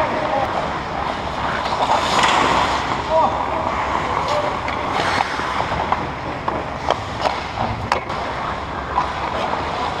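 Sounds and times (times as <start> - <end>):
hockey sticks and puck clacking: 0.0 - 3.1, 4.0 - 10.0
skates scraping on ice: 0.0 - 10.0.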